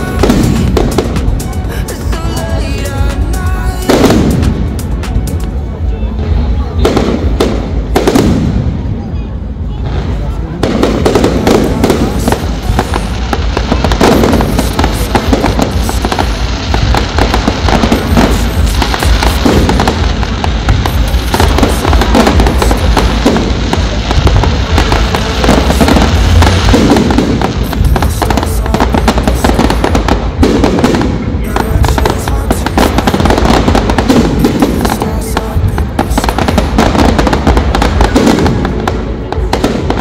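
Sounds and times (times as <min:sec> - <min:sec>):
fireworks crackling and popping: 0:00.0 - 0:40.0
low fireworks booms: 0:00.0 - 0:40.0.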